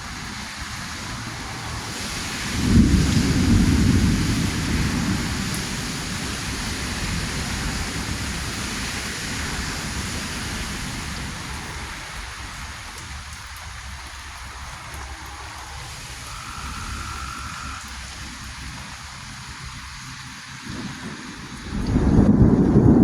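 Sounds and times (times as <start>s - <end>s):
steady rain falling: 0.0s - 23.0s
thunder rumble: 0.0s - 23.0s.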